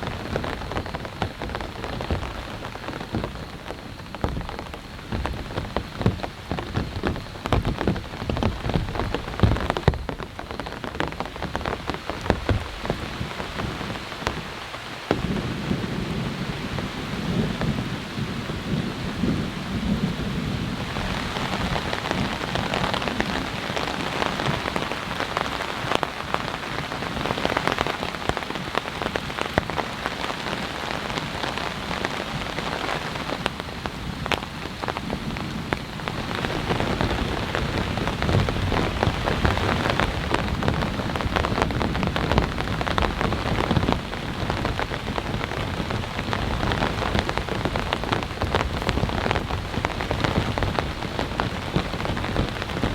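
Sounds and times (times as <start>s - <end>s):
heavy rain falling: 0.0s - 52.9s
low thunder rumbling: 0.0s - 52.9s
raindrops hitting a surface: 0.0s - 52.9s.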